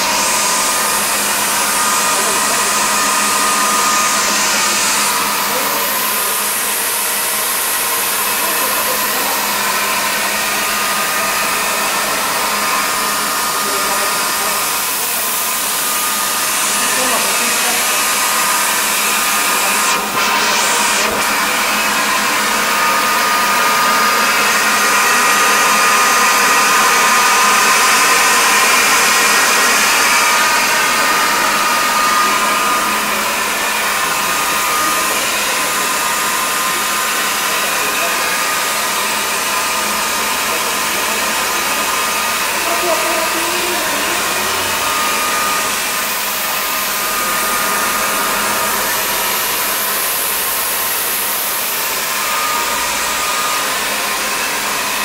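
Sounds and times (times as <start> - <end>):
blower rushing air with whine: 0.0 - 55.0.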